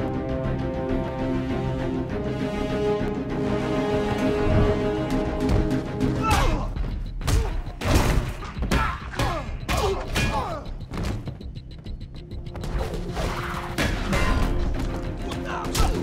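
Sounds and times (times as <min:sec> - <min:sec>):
orchestral film score: 0:00.0 - 0:16.0.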